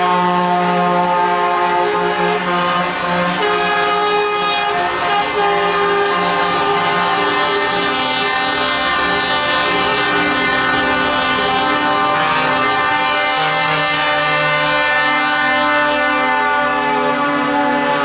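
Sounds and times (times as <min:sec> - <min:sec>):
truck air horns blaring: 0:00.0 - 0:18.0.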